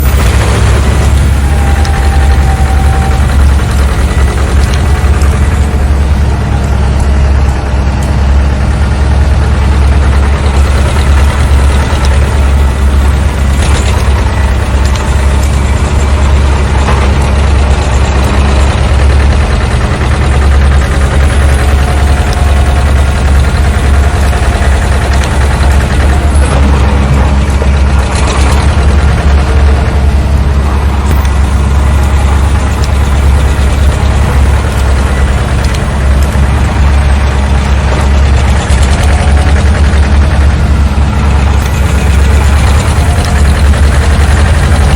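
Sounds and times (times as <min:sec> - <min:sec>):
diesel engine rumbling: 0:00.0 - 0:44.9.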